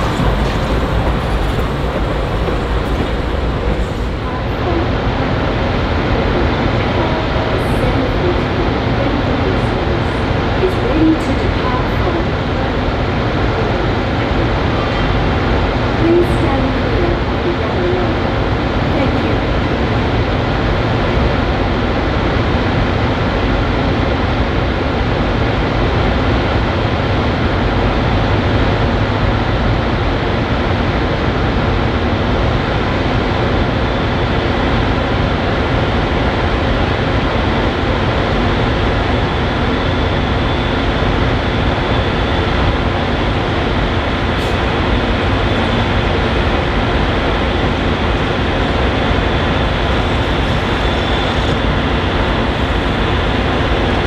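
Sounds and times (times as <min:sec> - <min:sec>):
diesel locomotive engine droning: 0:00.0 - 0:54.0.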